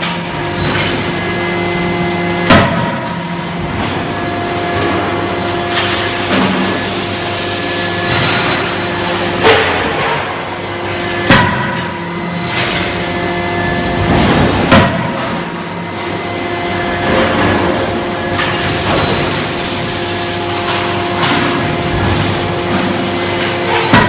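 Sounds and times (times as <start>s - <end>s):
hissing forge-shop noise: 0.0s - 24.0s
machinery hum: 0.0s - 24.0s.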